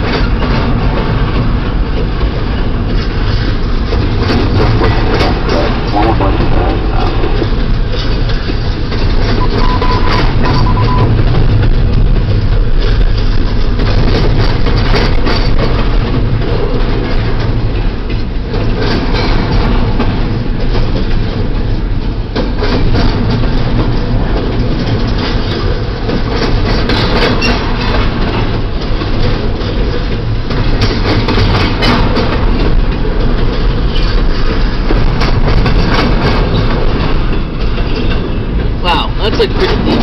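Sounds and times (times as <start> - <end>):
clickety-clack over rail joints: 0.0 - 40.0
steel wheels rumbling: 0.0 - 40.0.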